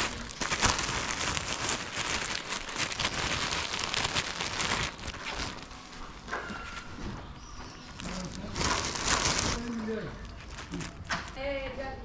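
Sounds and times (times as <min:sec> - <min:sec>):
plastic bag crinkling: 0:00.0 - 0:11.7.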